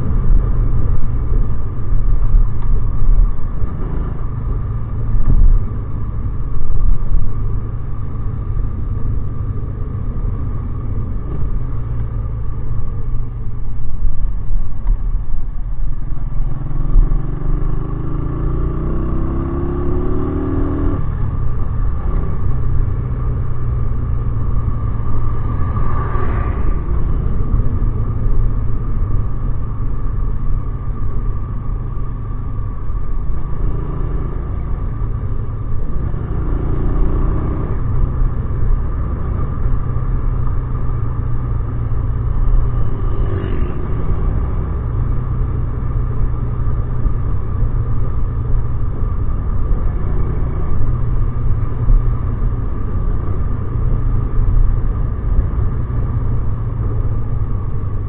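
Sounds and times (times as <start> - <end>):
motorcycle engine running: 0.0 - 58.0
road rumble: 0.0 - 58.0.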